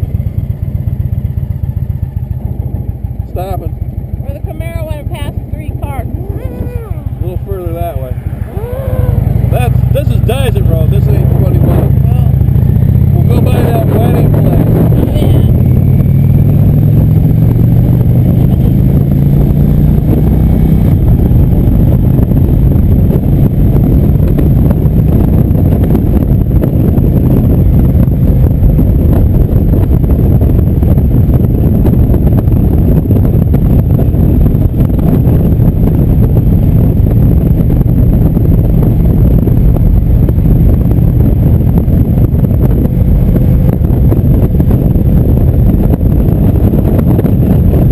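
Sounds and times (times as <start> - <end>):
motorcycle engine running: 0.0 - 47.9
wind noise on microphone: 0.0 - 47.9.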